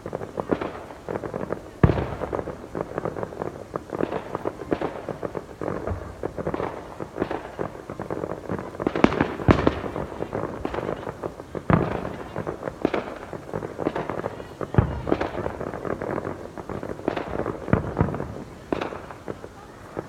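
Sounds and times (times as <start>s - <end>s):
fireworks booms: 0.0s - 20.0s
fireworks crackling pops: 0.0s - 20.0s.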